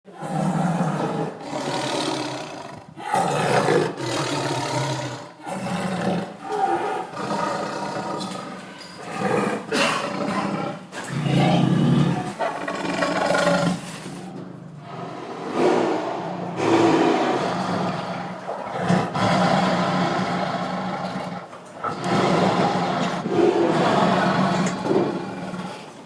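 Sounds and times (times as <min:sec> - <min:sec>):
big cat roaring: 0:00.1 - 0:26.0.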